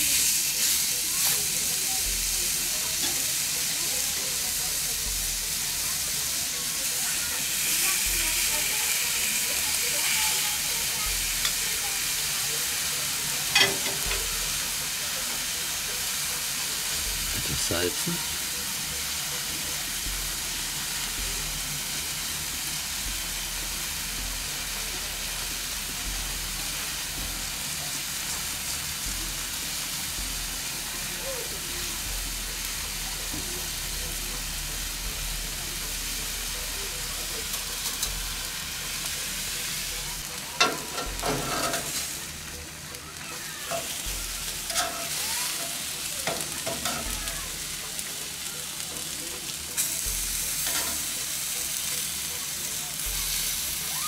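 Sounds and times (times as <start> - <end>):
steaks sizzling on a grill: 0.0 - 54.0.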